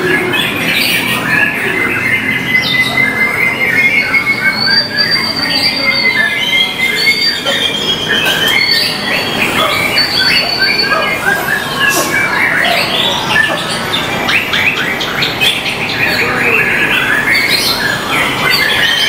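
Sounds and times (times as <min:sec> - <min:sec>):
bird singing varied song: 0:00.0 - 0:19.0.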